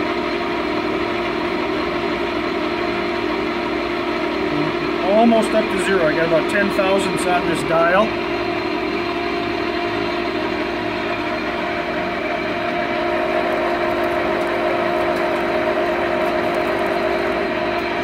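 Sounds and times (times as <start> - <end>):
lathe humming and whining: 0.0 - 18.0.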